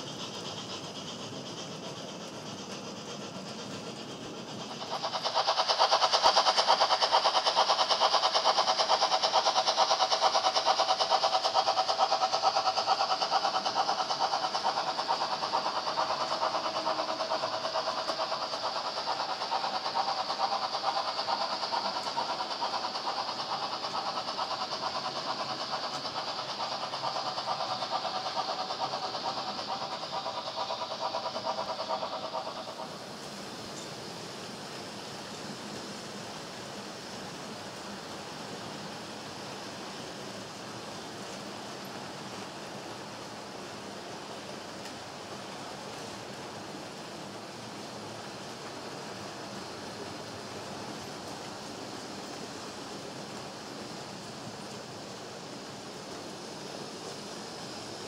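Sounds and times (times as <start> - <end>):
model train whirring rattle: 0.0 - 58.0.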